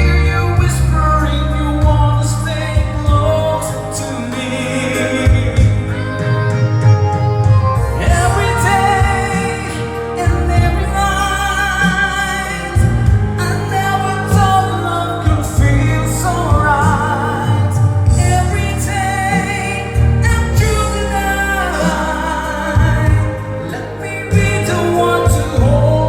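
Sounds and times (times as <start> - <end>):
backing track with bass: 0.0 - 26.0
person singing with vibrato: 0.0 - 26.0.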